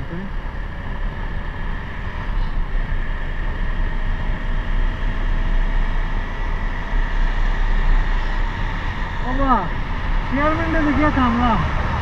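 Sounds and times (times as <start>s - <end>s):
motorcycle engine rumbling: 0.0s - 12.0s
wind noise on microphone: 0.8s - 12.0s.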